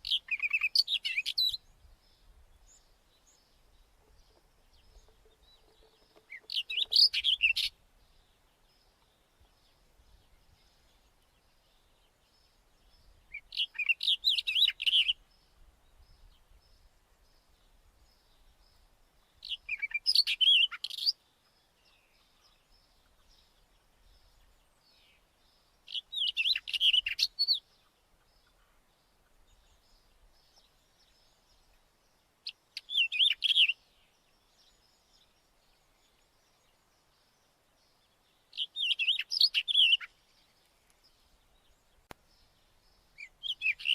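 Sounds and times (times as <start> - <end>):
bird singing warbled phrases: 0.0 - 43.9.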